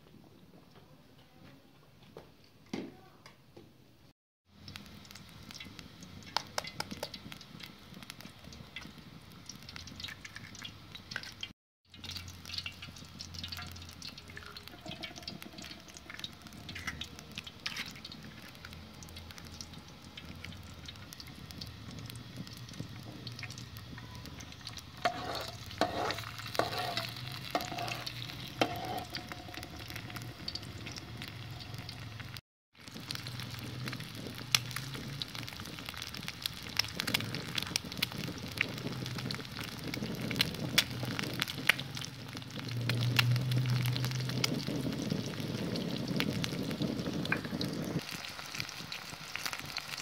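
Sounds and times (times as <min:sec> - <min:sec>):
eggs sizzling in oil: 0:04.4 - 0:50.0.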